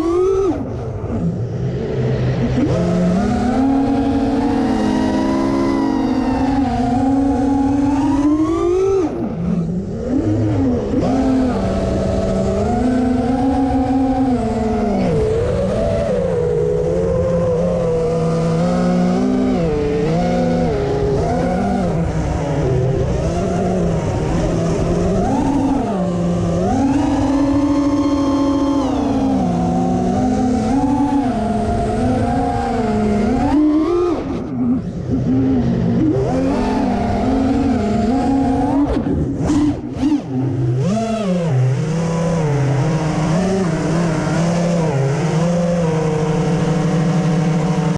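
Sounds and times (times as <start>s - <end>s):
low wind rush: 0.0s - 47.1s
drone motors buzzing whine: 0.0s - 47.9s.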